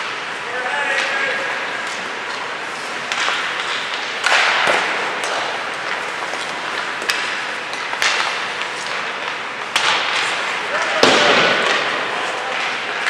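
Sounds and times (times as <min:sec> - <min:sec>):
skates scraping ice: 0:00.0 - 0:13.0
sticks clacking on pucks: 0:00.9 - 0:13.0.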